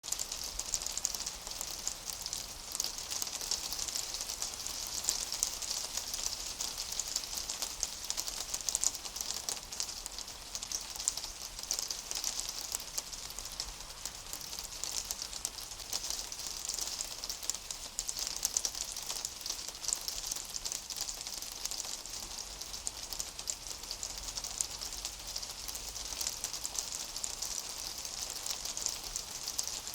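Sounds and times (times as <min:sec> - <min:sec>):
ice rain on a rooftop: 0:00.0 - 0:29.9.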